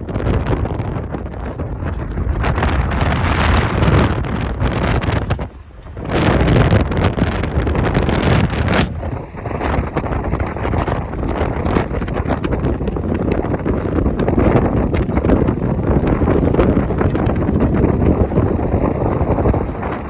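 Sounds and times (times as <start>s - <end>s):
low rumble: 0.0s - 20.0s
wind buffeting the microphone: 0.0s - 20.0s.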